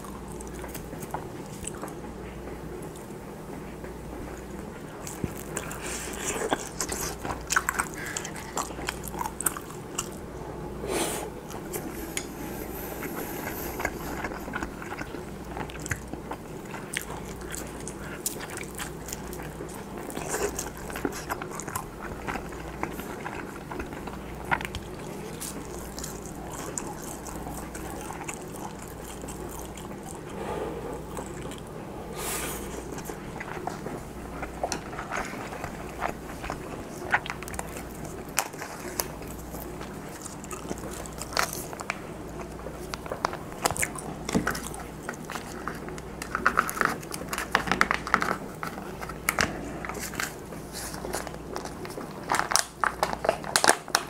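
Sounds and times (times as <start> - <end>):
biting and chewing food: 0.0 - 10.3, 11.5 - 31.8, 32.6 - 54.0.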